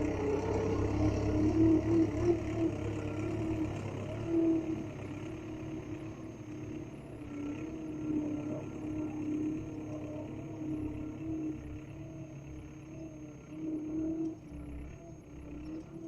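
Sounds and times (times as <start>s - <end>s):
bulldozer engine whining and rumbling: 0.0s - 16.0s.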